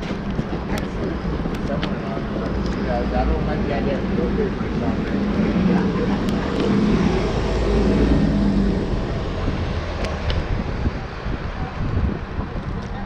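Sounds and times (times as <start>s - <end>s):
general traffic noise: 0.0s - 13.0s
vehicle engine passing: 1.0s - 12.5s.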